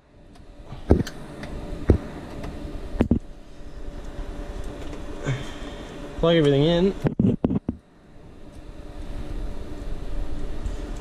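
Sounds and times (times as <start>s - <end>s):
rack equipment humming: 0.0s - 11.0s.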